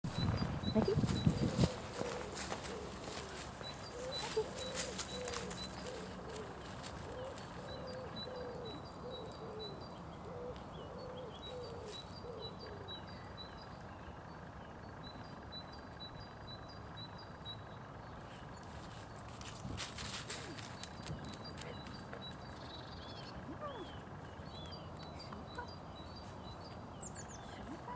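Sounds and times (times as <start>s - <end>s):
outdoor background: 0.0s - 27.9s
lower wavering bird calls: 0.1s - 27.9s
small birds chirping: 0.1s - 27.9s.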